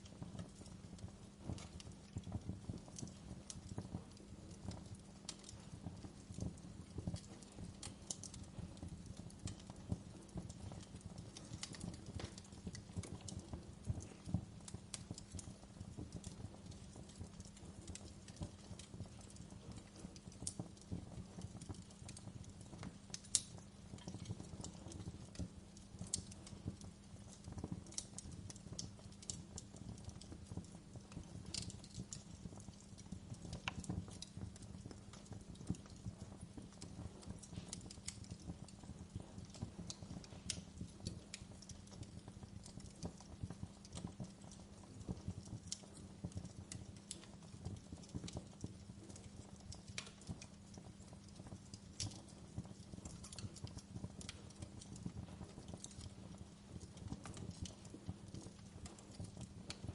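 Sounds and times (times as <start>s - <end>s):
low rumble of fire: 0.0s - 59.9s
wood fire crackling and popping: 0.0s - 59.9s.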